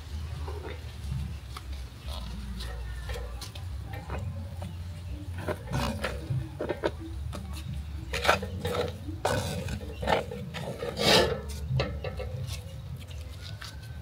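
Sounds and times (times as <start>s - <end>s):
food scraping and rubbing: 1.9s - 14.0s.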